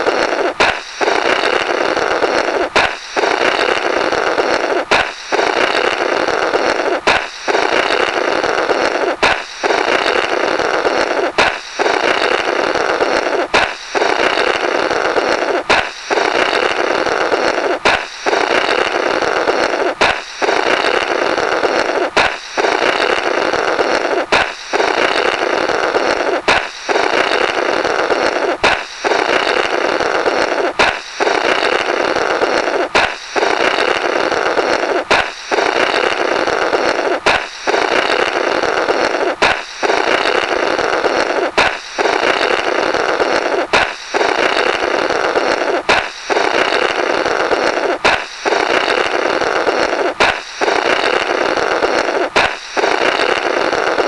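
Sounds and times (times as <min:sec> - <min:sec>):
balloon popping: 0:00.0 - 0:54.0
blowing through burst balloon: 0:00.0 - 0:54.0.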